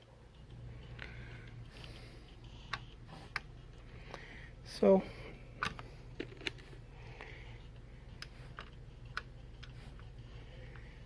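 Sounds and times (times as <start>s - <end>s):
faint low hum: 0.0s - 11.0s
test probes clicking and tapping: 0.3s - 4.3s, 5.5s - 11.0s.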